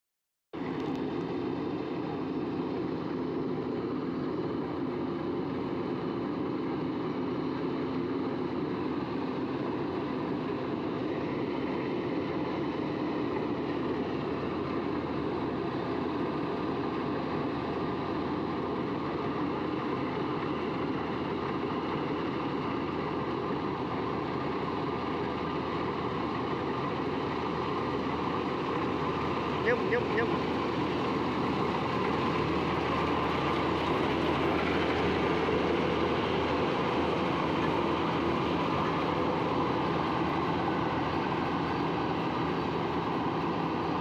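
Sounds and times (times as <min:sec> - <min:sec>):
combine harvester engine drone: 0:00.6 - 0:44.0.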